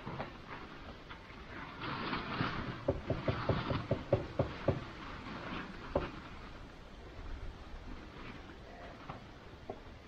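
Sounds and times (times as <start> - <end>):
rustling: 0.0 - 10.0.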